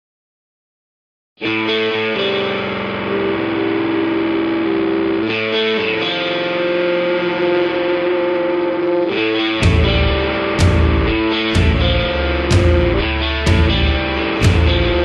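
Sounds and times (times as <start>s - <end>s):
distorted electric guitar chords: 1.4s - 15.0s.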